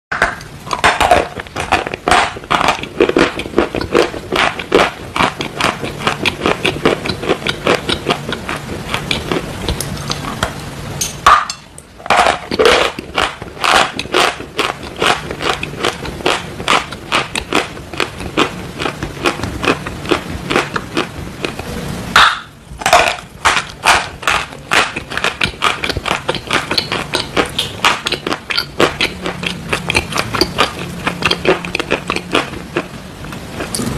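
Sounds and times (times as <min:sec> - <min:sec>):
chewing and crunching chalk: 0:00.7 - 0:10.4, 0:12.1 - 0:21.6, 0:23.0 - 0:32.9.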